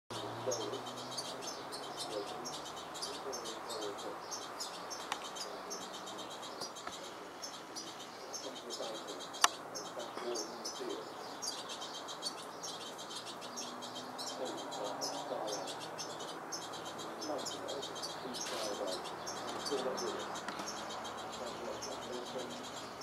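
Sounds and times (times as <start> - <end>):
finches chirping: 0.1 - 23.0.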